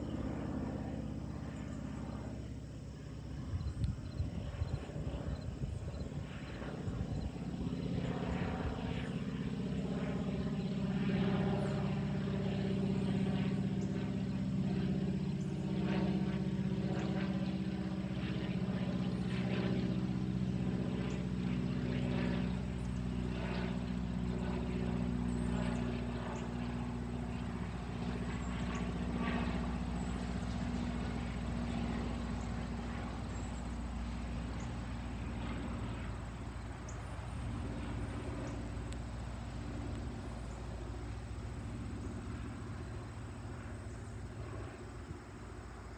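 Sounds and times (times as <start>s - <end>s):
biplane engine drone: 0.0s - 45.9s.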